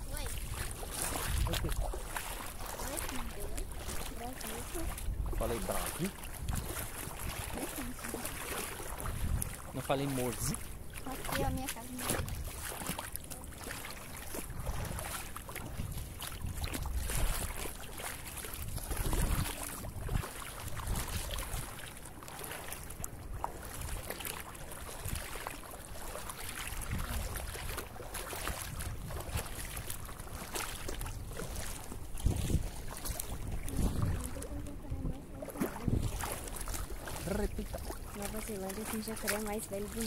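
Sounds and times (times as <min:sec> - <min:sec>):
wind buffeting microphone: 0:00.0 - 0:12.8, 0:14.3 - 0:17.7, 0:18.5 - 0:21.8, 0:26.6 - 0:40.0
footsteps splashing in water: 0:00.0 - 0:40.0.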